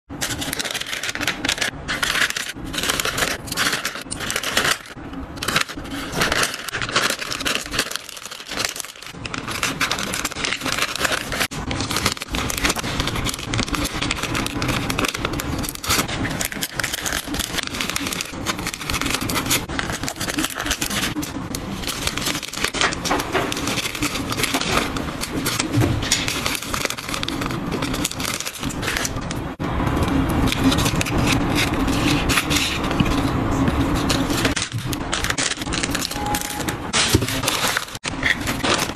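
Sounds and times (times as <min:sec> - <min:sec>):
items clicking and tapping: 0:00.1 - 0:38.9
plastic and paper crinkling: 0:00.1 - 0:38.9.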